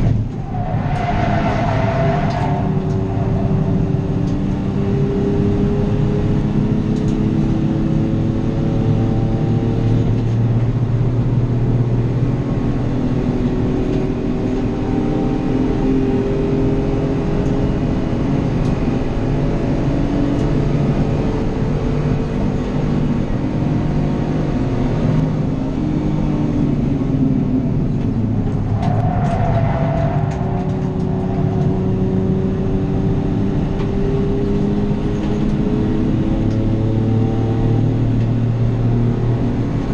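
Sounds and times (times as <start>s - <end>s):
racing car engine accelerating: 0.0s - 39.9s.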